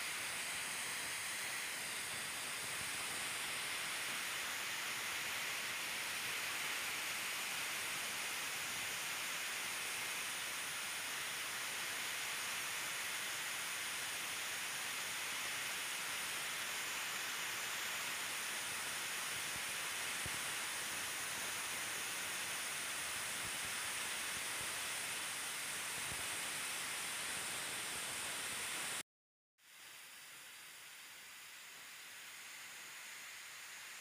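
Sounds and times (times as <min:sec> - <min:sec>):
steady hiss: 0:00.0 - 0:29.0, 0:29.6 - 0:34.0.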